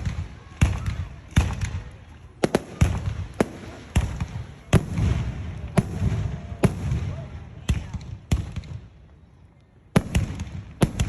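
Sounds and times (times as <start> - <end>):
fireworks bangs with rumbling echo: 0.0 - 9.1, 9.9 - 11.0.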